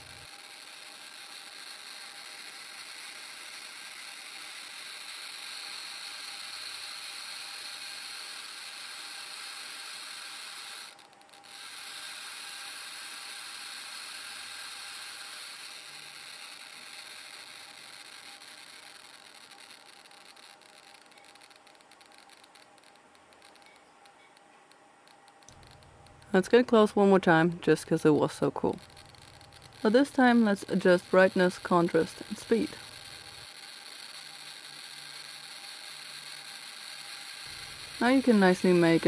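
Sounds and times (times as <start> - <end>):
geiger counter crackling: 0.0 - 39.0.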